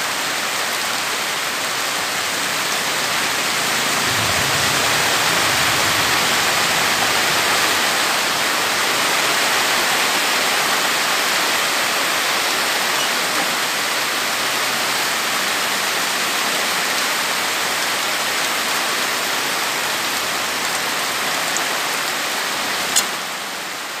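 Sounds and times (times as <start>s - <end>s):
steady rain falling: 0.0s - 24.0s
water streaming off a tarp: 0.0s - 24.0s.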